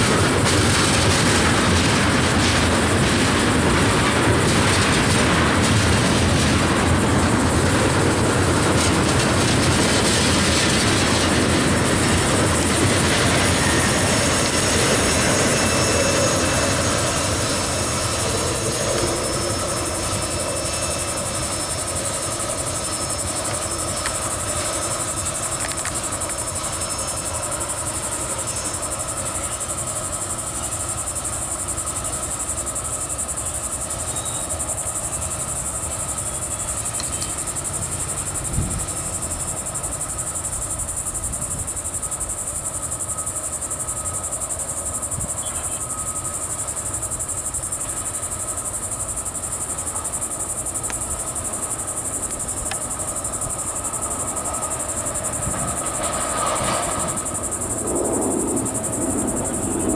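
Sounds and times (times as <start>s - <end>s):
freight train rumbling: 0.0s - 59.9s
insects buzzing: 0.0s - 59.9s.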